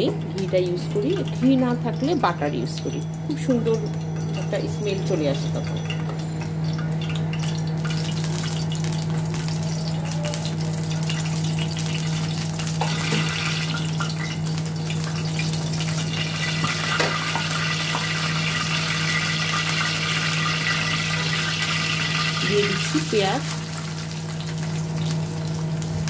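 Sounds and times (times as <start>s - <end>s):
oil sizzling in frying pan: 0.0s - 26.0s
steady low hum: 0.0s - 26.0s.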